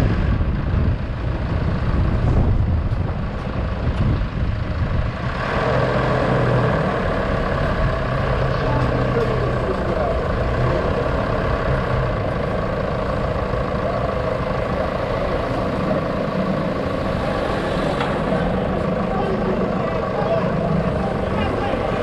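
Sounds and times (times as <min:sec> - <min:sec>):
road and traffic rumble: 0:00.0 - 0:22.0
vehicle engine noise: 0:00.0 - 0:22.0.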